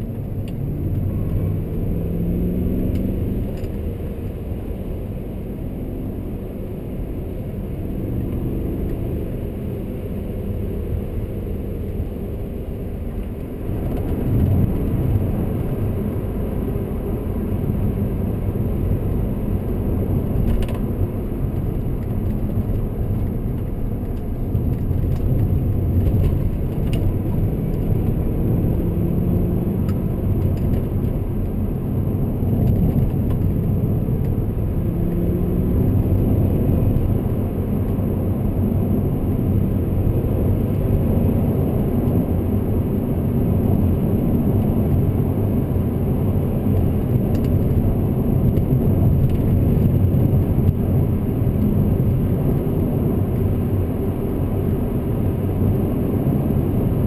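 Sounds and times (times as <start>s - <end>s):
car engine rumbling: 0.0s - 57.0s
road noise inside car: 0.0s - 57.0s.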